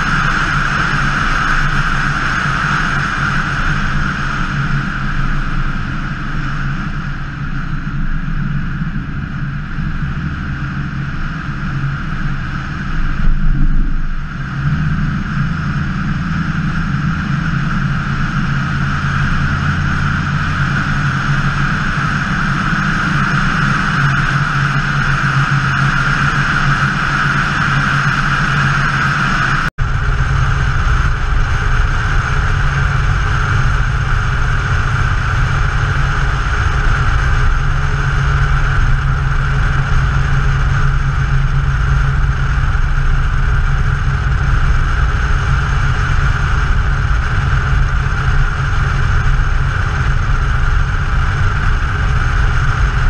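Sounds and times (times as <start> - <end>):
car engine and exhaust running: 0.0 - 53.0
wind rushing over camera: 0.0 - 53.0.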